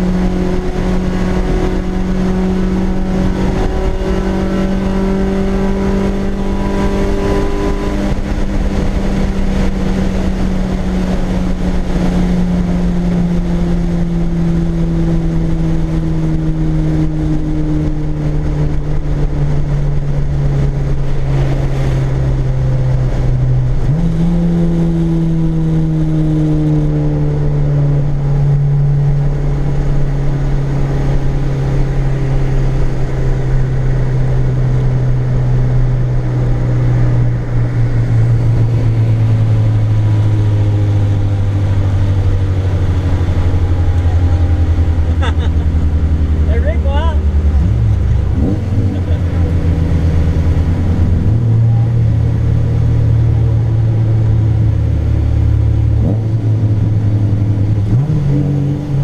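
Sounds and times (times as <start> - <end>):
car engine from inside cabin: 0.0 - 59.0
road and tyre noise: 0.0 - 59.0.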